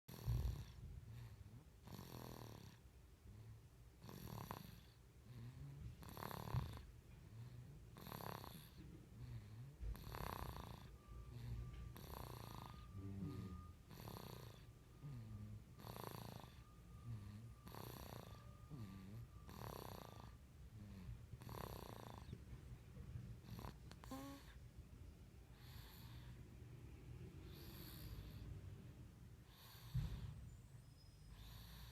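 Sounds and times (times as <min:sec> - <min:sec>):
quiet snoring: 0:00.1 - 0:24.7, 0:25.4 - 0:31.9.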